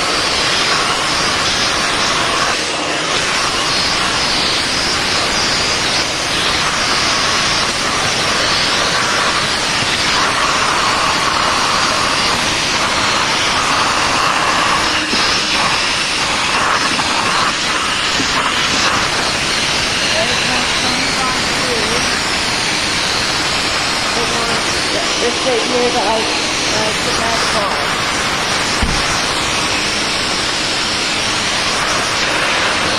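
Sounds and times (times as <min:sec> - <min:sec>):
vacuum nozzle sucking air: 0:00.0 - 0:32.9.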